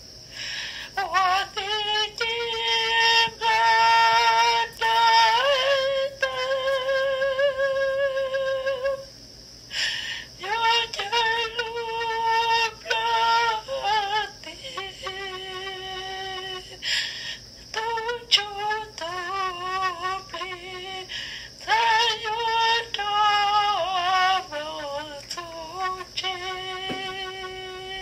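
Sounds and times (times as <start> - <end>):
steady high hiss: 0.0 - 28.0
woman singing with vibrato: 0.9 - 9.0, 10.4 - 16.9, 17.7 - 28.0.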